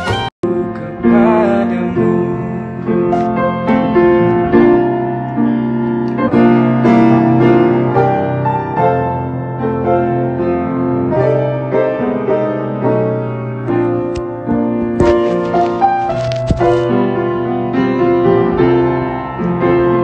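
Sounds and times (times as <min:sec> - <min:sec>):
piano playing chords and melody: 0:00.0 - 0:20.0.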